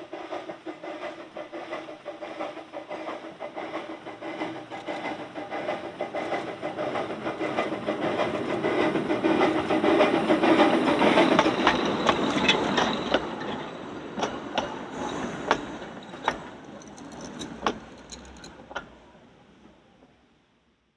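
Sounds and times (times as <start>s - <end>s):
train wheels clicking over rail joints: 0.0s - 19.2s
steam train rumbling: 0.0s - 20.4s.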